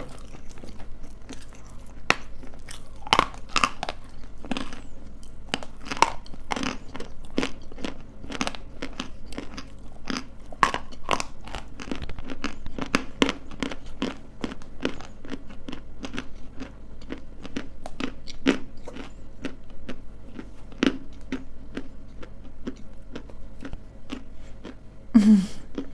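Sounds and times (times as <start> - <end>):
crisp crunching and chewing: 0.0 - 24.8.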